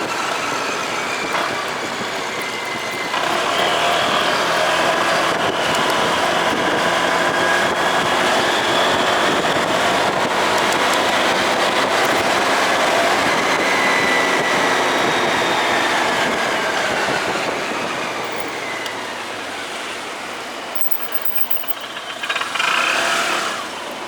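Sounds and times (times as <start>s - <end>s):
motorcycle engine hum: 0.0s - 24.0s
wind and road noise: 0.0s - 24.0s.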